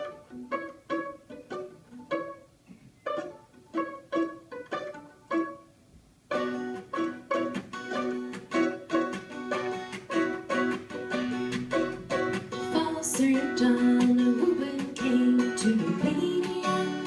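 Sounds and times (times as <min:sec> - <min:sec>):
plucked string instruments: 0:00.0 - 0:17.0.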